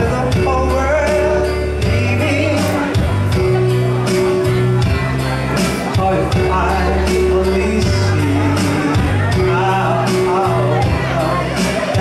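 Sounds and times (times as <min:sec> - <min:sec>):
live dance music over speakers: 0:00.0 - 0:12.0.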